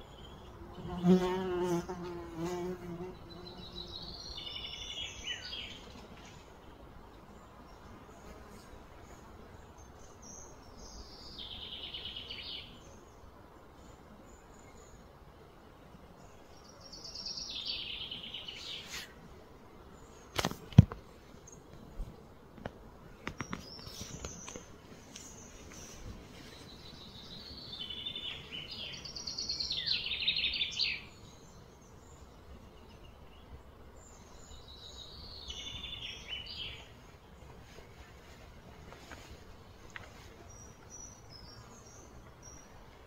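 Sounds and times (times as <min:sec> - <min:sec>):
faint outdoor background: 0:00.0 - 0:43.0.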